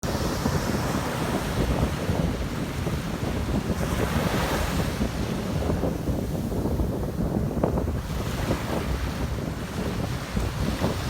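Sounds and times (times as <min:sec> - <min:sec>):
surf washing on shore: 0:00.0 - 0:11.0
wind buffeting microphone: 0:00.0 - 0:11.0.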